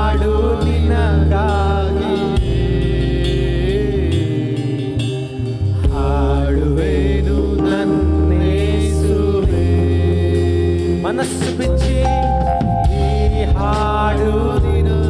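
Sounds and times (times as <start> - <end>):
instrumental backing with bass: 0.0 - 15.0
person singing with vibrato: 0.0 - 15.0.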